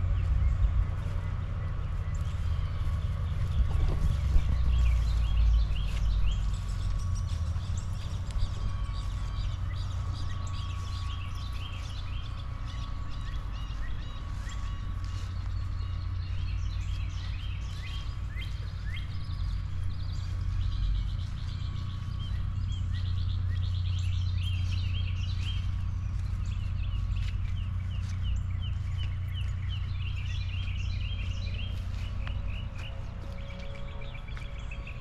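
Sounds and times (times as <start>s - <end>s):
birds chirping and singing: 0.0s - 35.0s
steady low rumble: 0.0s - 35.0s.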